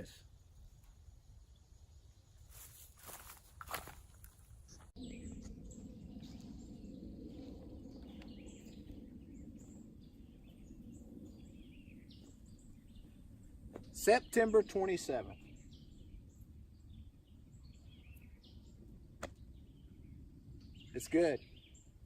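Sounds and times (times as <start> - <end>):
faint birds chirping: 0.0 - 22.0
low steady hum: 0.0 - 22.0.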